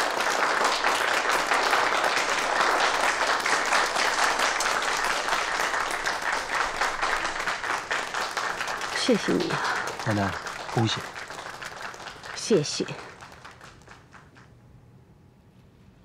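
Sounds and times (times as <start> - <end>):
people applauding: 0.0 - 14.6.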